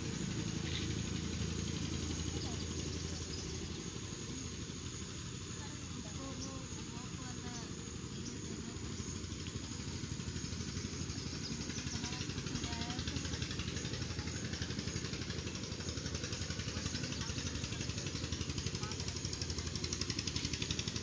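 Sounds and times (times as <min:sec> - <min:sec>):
engine chugging steadily: 0:00.0 - 0:21.0.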